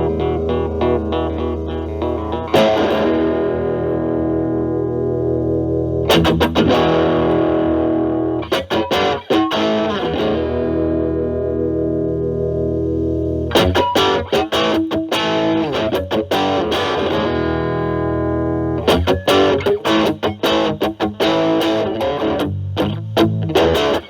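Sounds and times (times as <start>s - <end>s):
overdriven electric guitar: 0.0s - 24.0s
picked single guitar notes: 0.0s - 24.0s
strummed guitar chords: 0.0s - 24.0s.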